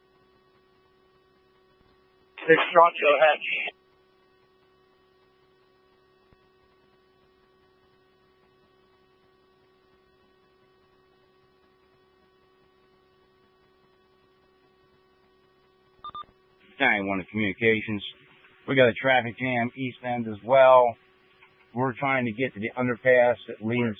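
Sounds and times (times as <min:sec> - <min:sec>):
faint electrical hum: 0:00.0 - 0:23.9.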